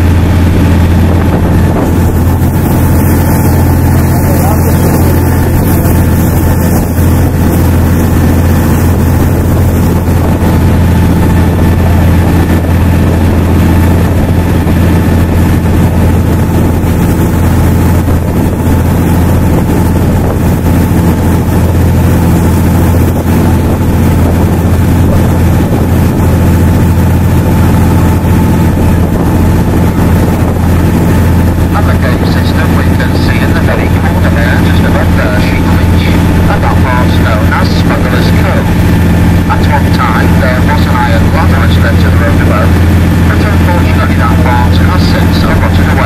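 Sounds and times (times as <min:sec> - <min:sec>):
boat engine humming: 0:00.0 - 0:46.0.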